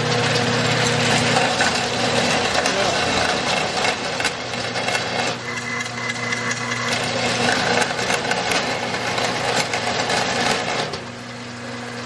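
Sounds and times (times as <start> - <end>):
bandsaw motor hum: 0.0 - 12.0
bandsaw blade rasping on metal: 1.1 - 11.0.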